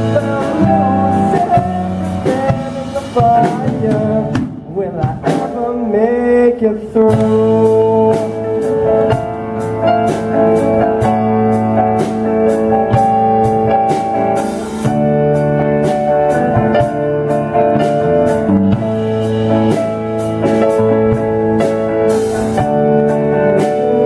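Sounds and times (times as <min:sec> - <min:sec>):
drum kit beat: 0:00.0 - 0:06.4, 0:07.0 - 0:24.0
bass guitar: 0:00.0 - 0:24.0
electric guitar: 0:00.0 - 0:24.0
keyboard: 0:00.0 - 0:24.0.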